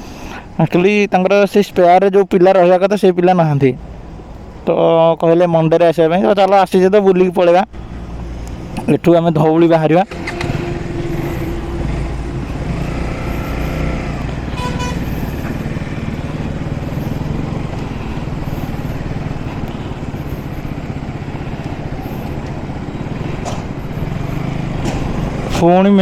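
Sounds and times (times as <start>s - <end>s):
wind and road noise: 0.0s - 26.0s
motorcycle engine hum: 3.6s - 5.3s, 6.4s - 26.0s.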